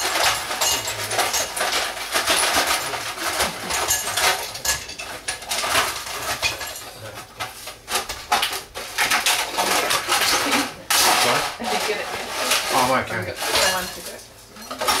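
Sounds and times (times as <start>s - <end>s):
ice cubes clattering into bowl: 0.0s - 15.0s.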